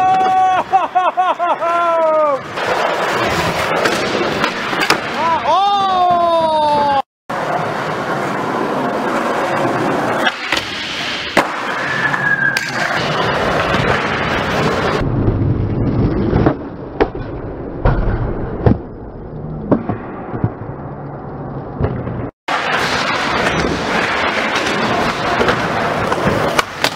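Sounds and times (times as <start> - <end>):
skateboard wheels rolling on concrete: 0.0 - 26.9.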